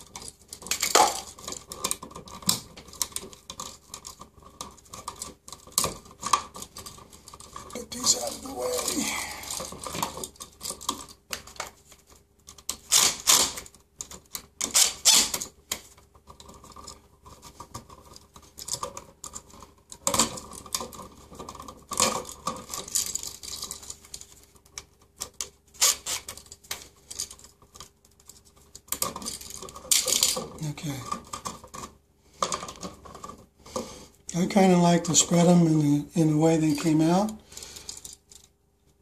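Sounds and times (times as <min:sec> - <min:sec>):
wall outlet and wires rattling: 0:00.0 - 0:39.0.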